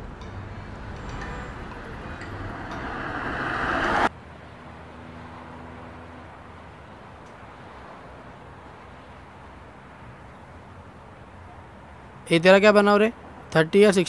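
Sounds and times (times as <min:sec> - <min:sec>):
roadside traffic: 0:00.0 - 0:14.0.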